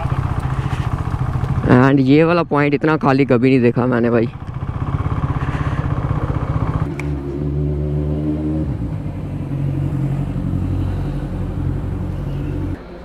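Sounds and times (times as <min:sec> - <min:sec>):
motorcycle engine idling: 0:00.0 - 0:02.2, 0:03.9 - 0:12.8
motorcycle engine running: 0:00.0 - 0:02.2, 0:03.8 - 0:12.8.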